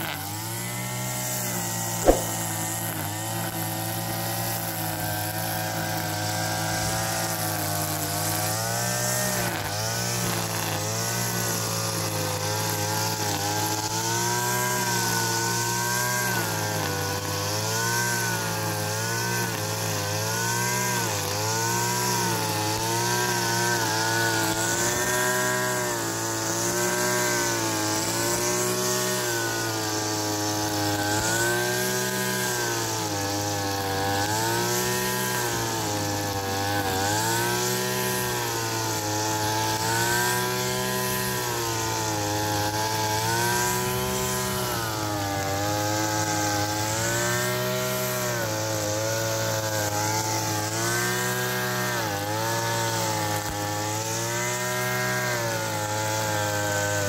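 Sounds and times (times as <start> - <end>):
brush cutter engine running: 0.0 - 57.0.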